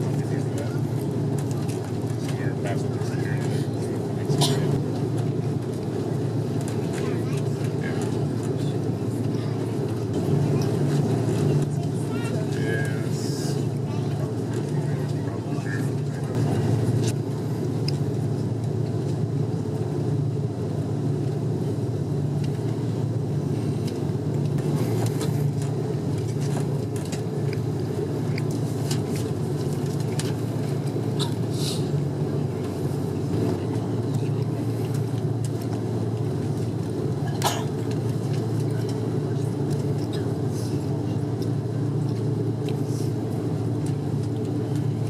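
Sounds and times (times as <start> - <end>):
airplane cabin rumble: 0.0 - 45.0.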